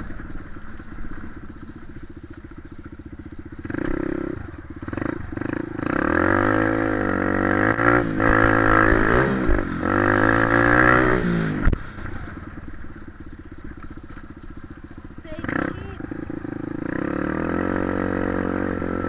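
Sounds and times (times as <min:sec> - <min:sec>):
dirt bike engine idling: 0:00.0 - 0:19.0
dirt bike engine revving: 0:00.0 - 0:19.0.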